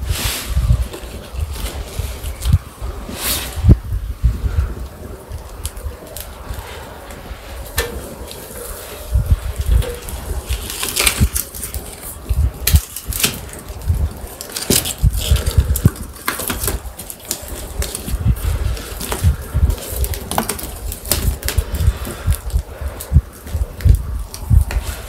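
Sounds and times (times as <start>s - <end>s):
campfire crackling: 0.0s - 25.0s
fire snapping: 0.0s - 25.0s.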